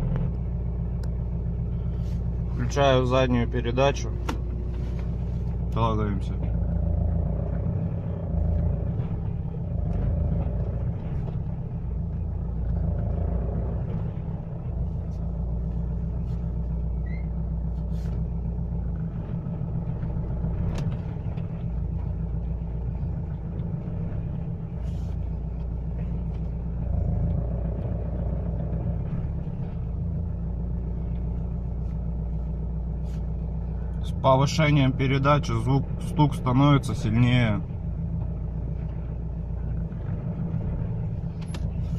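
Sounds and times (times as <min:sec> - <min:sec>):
pickup engine running under load: 0:00.0 - 0:41.9.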